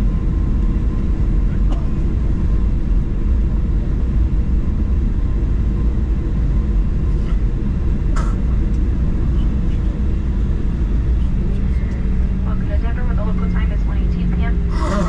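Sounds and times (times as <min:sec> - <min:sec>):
airplane cabin low rumble: 0:00.0 - 0:15.0.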